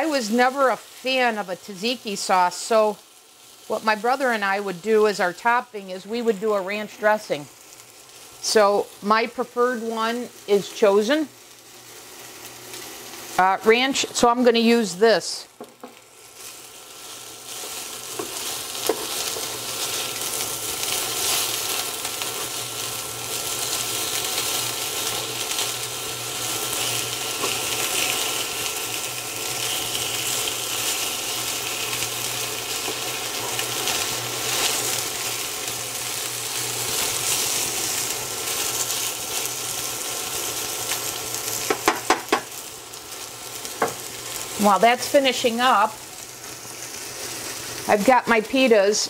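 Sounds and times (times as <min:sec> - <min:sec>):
chicken sizzling in a skillet: 0:00.0 - 0:49.0.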